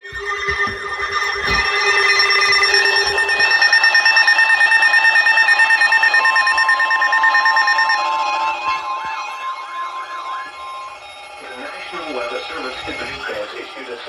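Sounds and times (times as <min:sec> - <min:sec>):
electronic alarm tones pulsing: 0:00.0 - 0:13.8.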